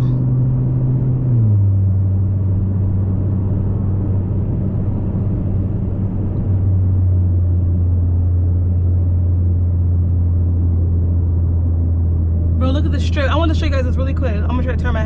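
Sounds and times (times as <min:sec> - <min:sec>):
exhaust droning while cruising: 0:00.0 - 0:15.0.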